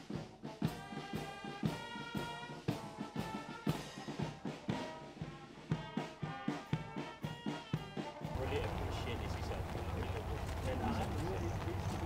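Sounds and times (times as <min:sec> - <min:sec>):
brass music with drum beat: 0:00.0 - 0:12.0.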